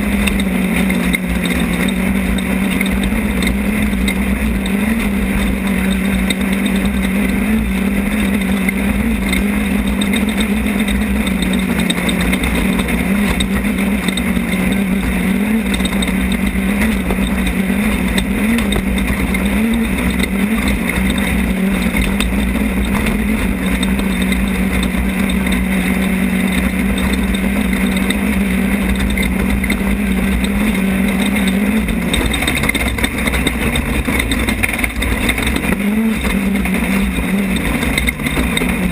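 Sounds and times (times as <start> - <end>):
loud steady noise: 0.0 - 38.9
race car engine running hard: 0.0 - 38.9.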